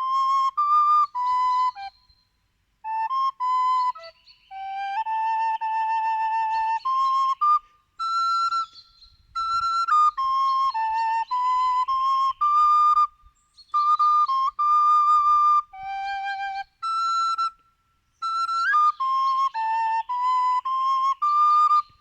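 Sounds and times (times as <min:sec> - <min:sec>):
flute-like wind instrument melody: 0:00.0 - 0:22.0.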